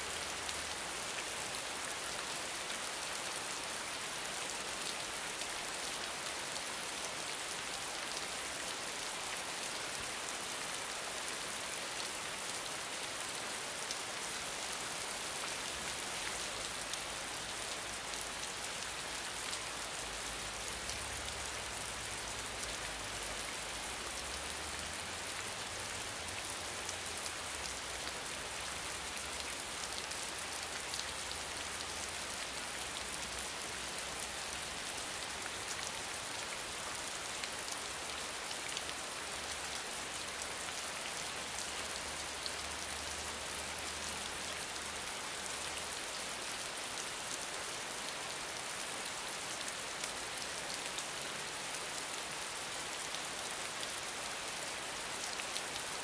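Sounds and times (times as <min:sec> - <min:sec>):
rain falling on wet paving: 0:00.0 - 0:56.0.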